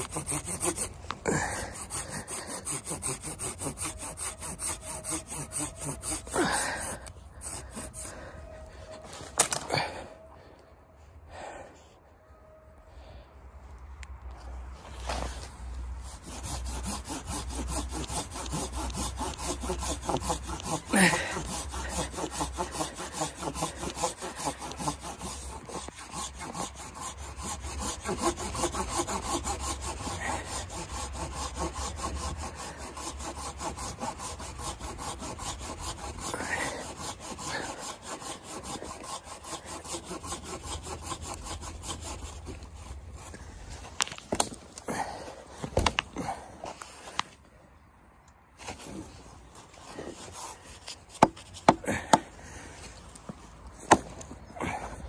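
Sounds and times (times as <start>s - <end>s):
hand saw cutting a log: 0.0s - 9.9s, 14.8s - 47.2s, 48.6s - 55.0s.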